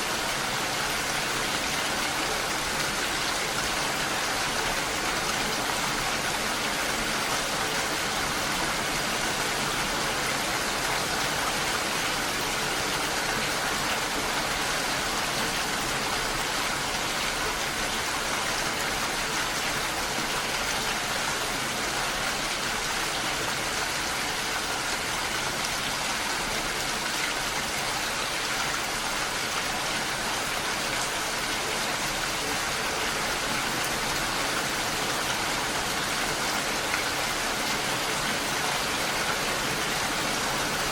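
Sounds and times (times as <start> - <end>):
gentle rain falling: 0.0 - 40.9
waterfall rushing: 0.0 - 40.9.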